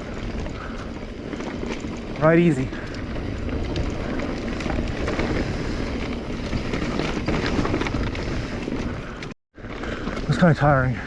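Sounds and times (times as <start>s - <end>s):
wind buffeting microphone: 0.0s - 10.2s
bike rattles and clicks: 0.0s - 11.0s
bike rolling over dirt trail: 0.0s - 11.0s.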